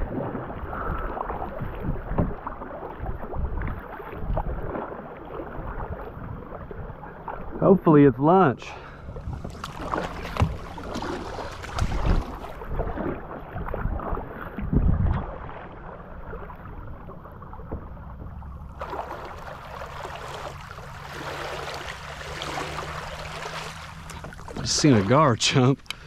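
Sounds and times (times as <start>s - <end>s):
paddle splashing in water: 0.0s - 7.8s, 8.7s - 26.0s.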